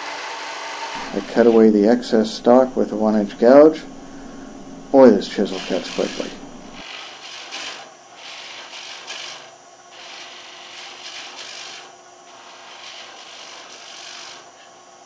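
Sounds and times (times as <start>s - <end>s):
gouge cutting wood on lathe: 0.0s - 7.8s, 10.0s - 14.5s.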